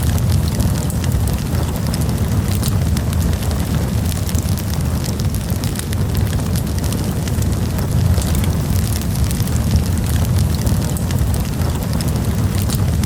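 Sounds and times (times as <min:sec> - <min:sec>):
campfire crackling and popping: 0:00.0 - 0:13.0
low rumble: 0:00.0 - 0:13.0.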